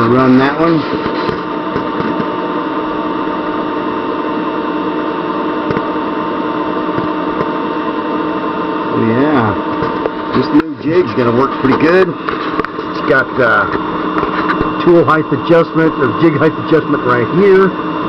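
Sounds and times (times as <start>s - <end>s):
spindle motor humming: 0.0s - 18.0s.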